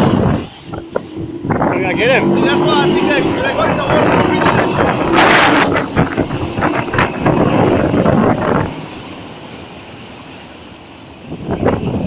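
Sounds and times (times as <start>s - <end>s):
surf: 0.0s - 12.0s
wind on microphone: 0.0s - 12.0s.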